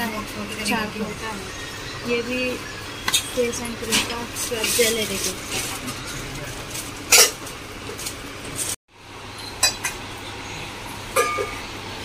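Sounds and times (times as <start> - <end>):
shop background noise: 0.0 - 12.0.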